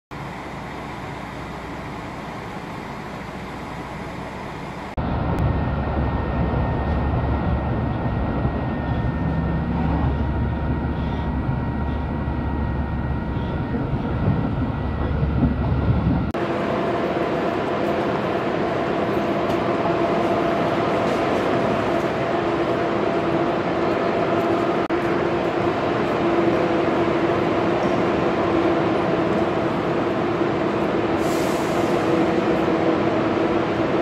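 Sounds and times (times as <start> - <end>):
train rumbling inside carriage: 0.1 - 34.0
train rushing past platform: 0.1 - 34.0.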